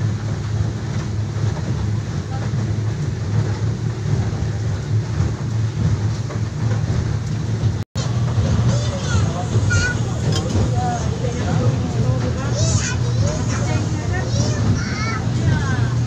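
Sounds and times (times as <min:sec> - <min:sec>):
boat engines droning: 0:00.0 - 0:16.0.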